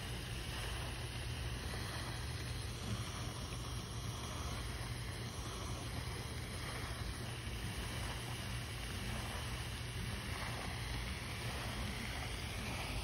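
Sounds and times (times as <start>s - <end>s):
outdoor hiss: 0.0s - 13.0s
wind rumble on microphone: 0.0s - 13.0s.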